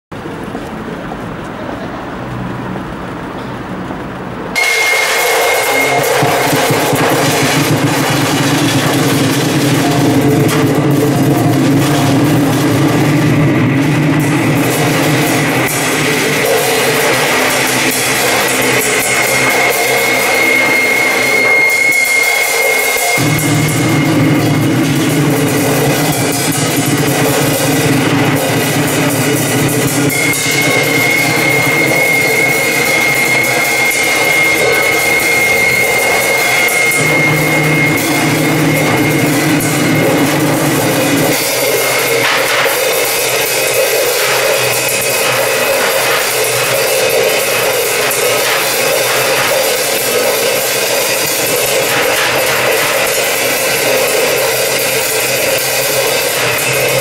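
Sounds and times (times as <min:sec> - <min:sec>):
noise music high whine: 0:00.1 - 0:57.0
low electronic drone: 0:01.4 - 0:57.0
amplified metal sheets noise: 0:02.4 - 0:57.0.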